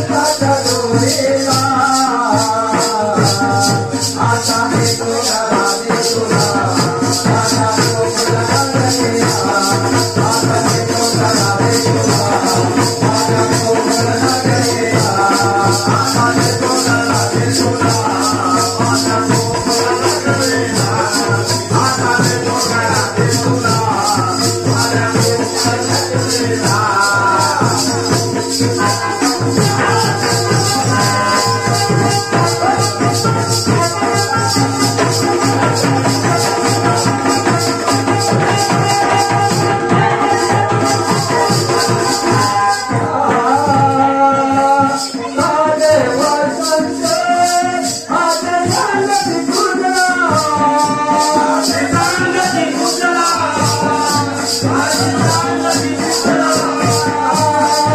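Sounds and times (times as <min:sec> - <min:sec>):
jingling percussion beat: 0:00.0 - 0:57.9
man singing: 0:00.0 - 0:57.9.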